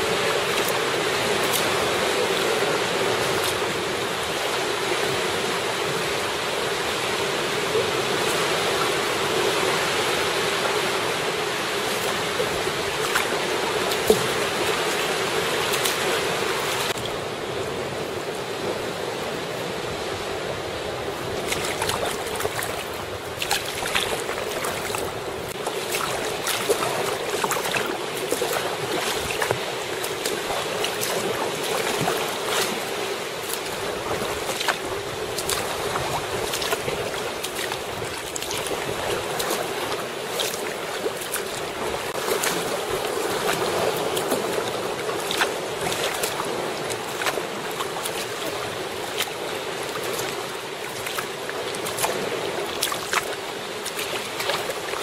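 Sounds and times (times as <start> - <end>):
sea water splashing against kayak: 0.0 - 55.0.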